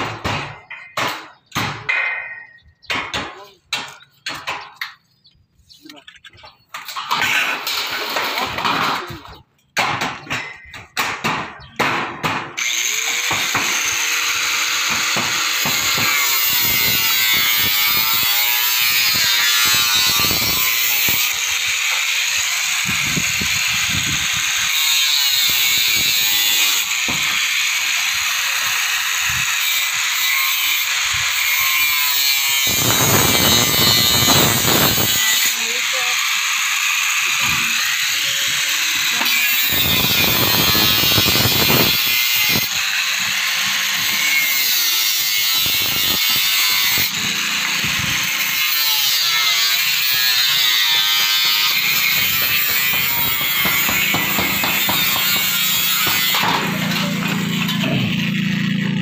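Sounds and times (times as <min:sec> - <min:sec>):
angle grinder cutting sheet metal: 0:06.8 - 0:09.4, 0:12.4 - 0:59.0.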